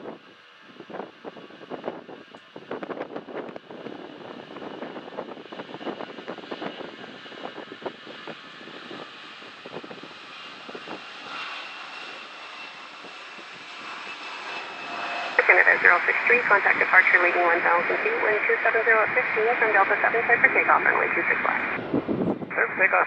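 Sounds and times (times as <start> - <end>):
wind buffeting microphone: 0.0 - 23.0
jet engines whining: 0.3 - 23.0.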